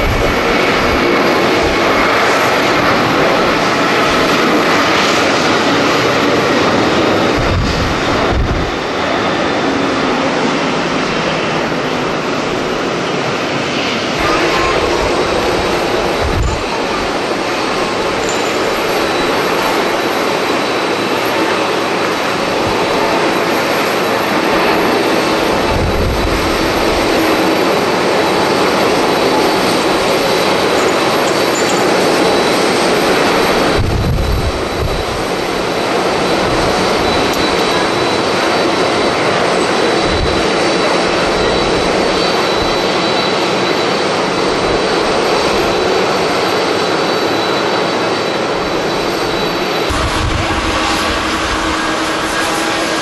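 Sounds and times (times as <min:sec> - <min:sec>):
jet engines roaring: 0:00.0 - 0:53.0
wind buffeting microphone: 0:00.0 - 0:53.0.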